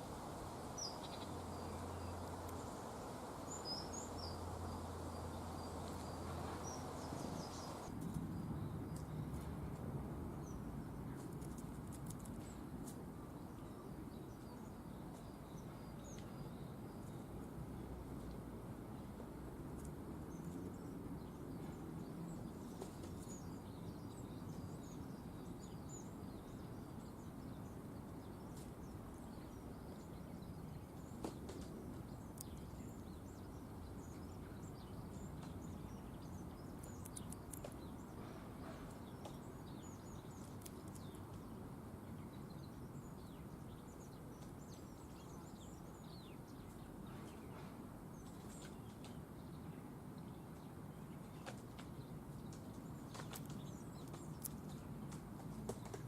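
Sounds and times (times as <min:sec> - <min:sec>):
small birds chirping: 0:00.0 - 0:09.8, 0:10.4 - 0:56.0.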